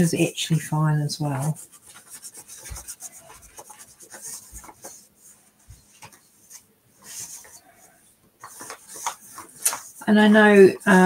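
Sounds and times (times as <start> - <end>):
paintbrush swishing on paper: 1.2 - 11.0.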